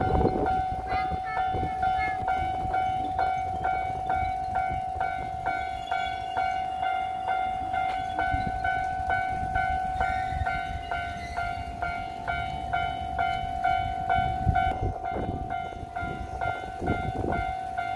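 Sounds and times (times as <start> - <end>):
level-crossing warning bell clanging: 0.0 - 17.9
low rumble of a train: 0.0 - 17.9.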